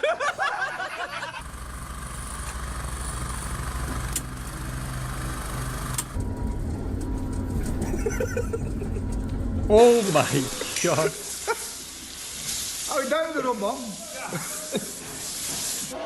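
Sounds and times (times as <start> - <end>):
engine running with hiss: 1.2 - 15.9.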